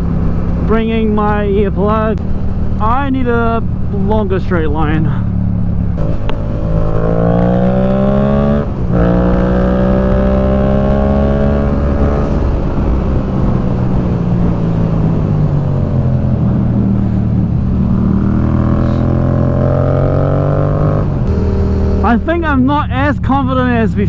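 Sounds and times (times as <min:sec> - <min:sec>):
motorcycle engine revving: 0:00.0 - 0:14.1, 0:16.0 - 0:23.0
wind noise: 0:00.0 - 0:23.8.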